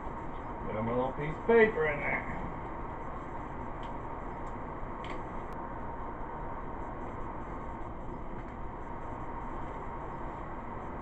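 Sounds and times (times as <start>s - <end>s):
room noise and hiss: 0.0s - 11.0s.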